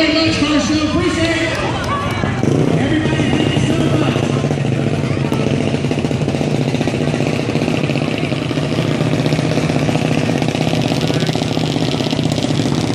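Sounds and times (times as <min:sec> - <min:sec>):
vehicle engine idling: 0:00.0 - 0:12.9.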